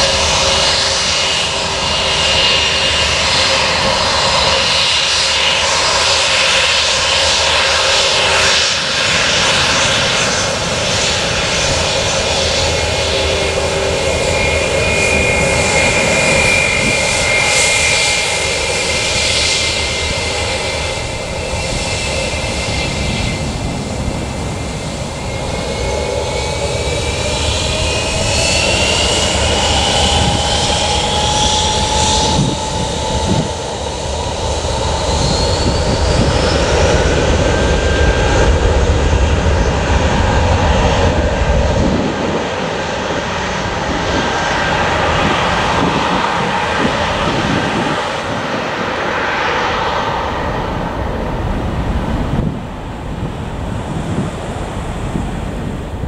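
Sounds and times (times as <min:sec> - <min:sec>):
jet engines with whine: 0:00.0 - 0:56.0.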